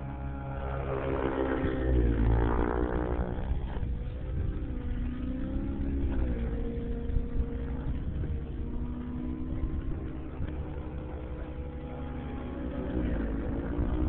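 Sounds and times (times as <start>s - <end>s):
model helicopter engine and rotor: 0.0s - 14.0s.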